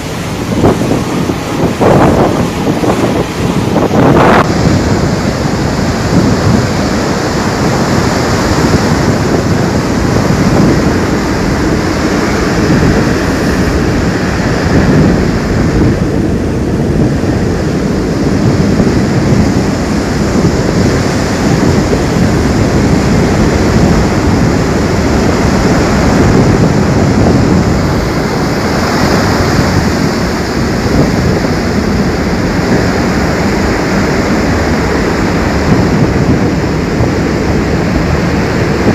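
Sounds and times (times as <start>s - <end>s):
floodwater rushing: 0.0s - 38.9s
wind buffeting microphone: 0.0s - 38.9s.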